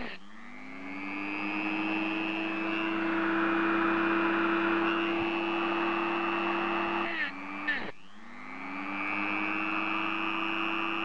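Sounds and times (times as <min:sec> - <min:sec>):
rotary tool whining: 0:00.0 - 0:11.0.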